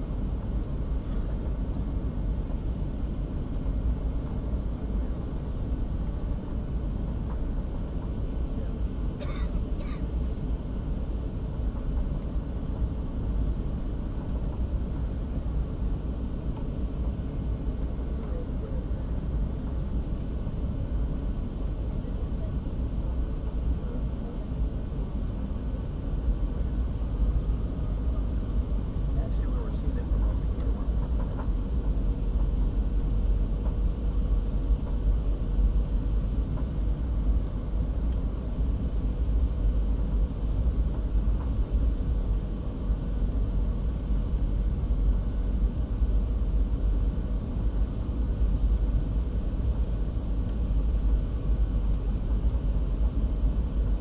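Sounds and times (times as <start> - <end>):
airplane engine rumble: 0.0 - 54.0.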